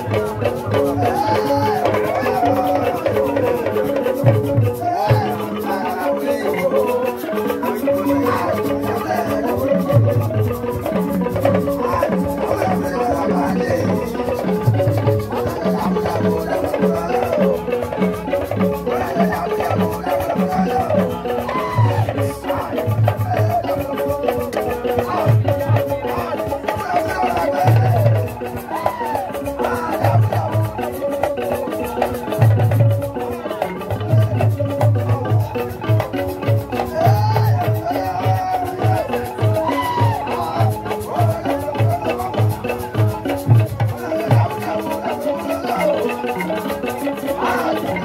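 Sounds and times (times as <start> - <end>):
drums beating quick rhythm: 0.0 - 7.1, 8.0 - 48.0
light percussion: 0.0 - 48.0
melody of short pitched notes: 0.0 - 48.0
voices singing: 0.0 - 48.0
wavering high melody: 0.0 - 48.0.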